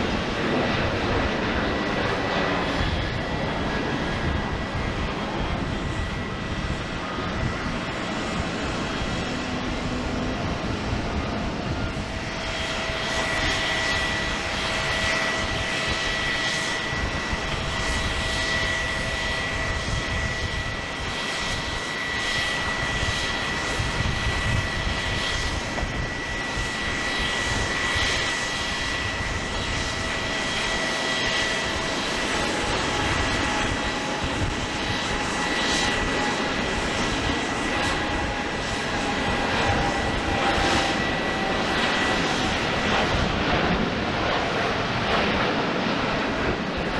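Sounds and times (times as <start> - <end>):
constant engine rush: 0.0 - 46.9
jet engines whining: 0.0 - 46.9.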